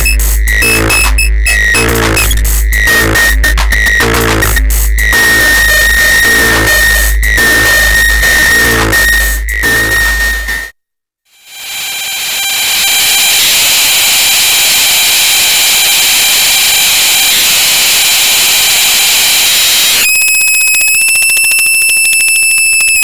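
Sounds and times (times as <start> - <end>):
fast pulsing buzz with high tone: 0.0 - 9.0, 11.4 - 23.0.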